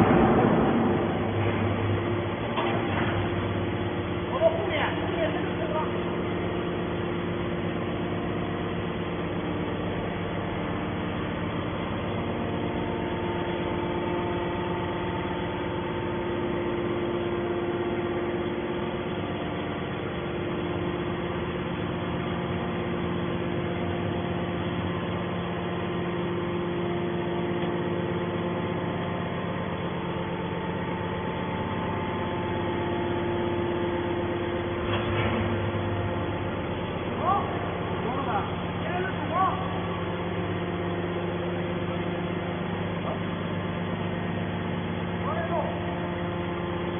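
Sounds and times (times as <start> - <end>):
hydraulic baler humming: 0.0 - 46.9.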